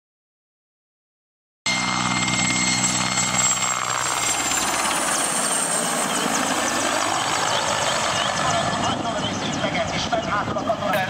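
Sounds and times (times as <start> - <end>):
helicopter flying overhead: 1.7 - 11.0.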